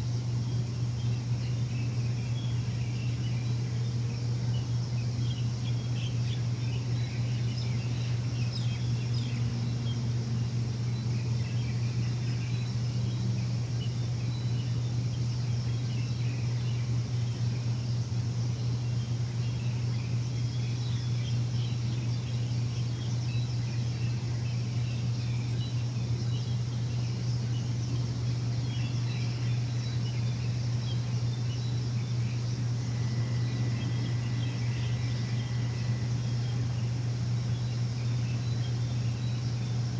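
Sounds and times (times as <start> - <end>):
low machine hum: 0.0 - 39.9
small birds chirping: 0.0 - 39.9.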